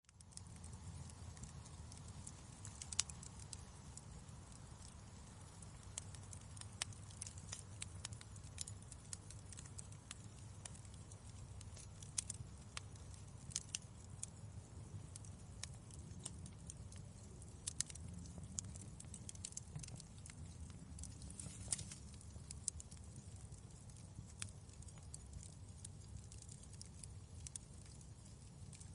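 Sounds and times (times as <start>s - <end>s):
fire popping and snapping: 0.0s - 28.9s
fire burning rumble: 0.1s - 28.9s.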